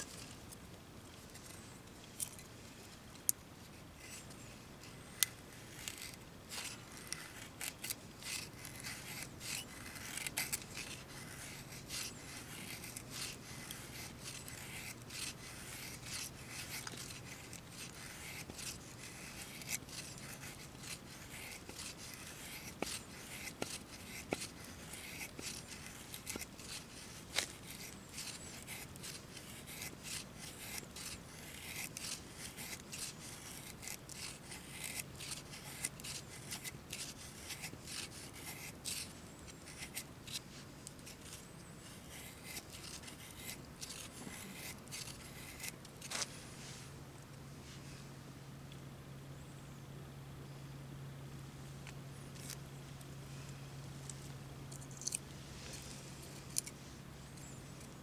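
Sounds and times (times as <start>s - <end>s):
knife shaving wooden stick: 0.0s - 47.0s, 54.1s - 58.0s.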